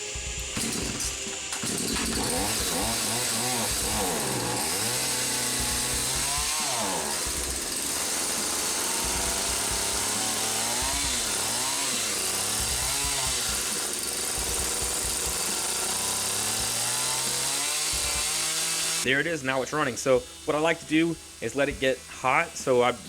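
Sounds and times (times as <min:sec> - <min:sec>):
chainsaw engine revving: 0:00.0 - 0:19.1.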